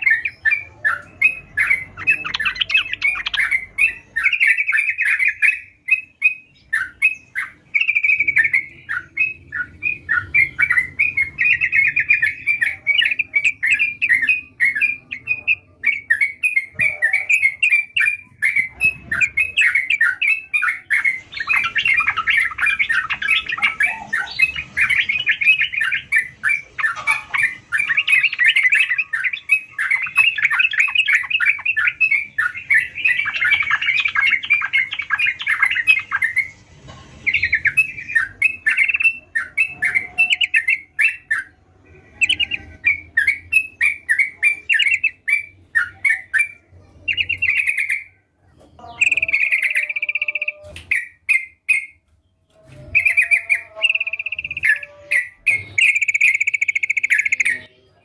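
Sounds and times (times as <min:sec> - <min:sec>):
bird singing rapid chirps: 0:00.0 - 0:58.0.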